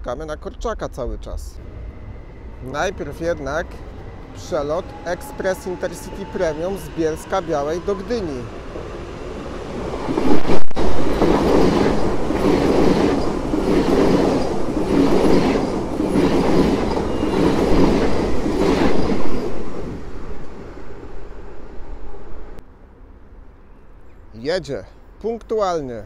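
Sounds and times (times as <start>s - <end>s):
sharp crack of passing train: 0.8s - 22.6s
rush of train wheels and air: 0.9s - 22.6s.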